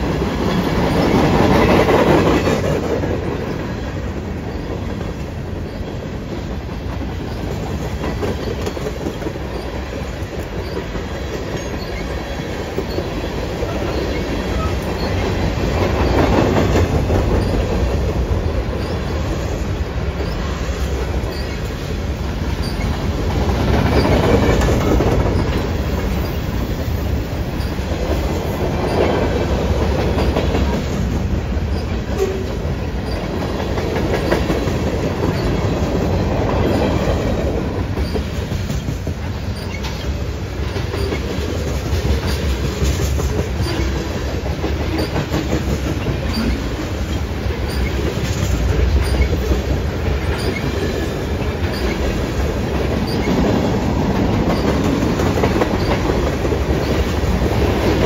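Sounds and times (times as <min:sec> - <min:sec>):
freight train rolling past: 0:00.0 - 0:58.0
wheels clicking on rails: 0:00.0 - 0:58.0.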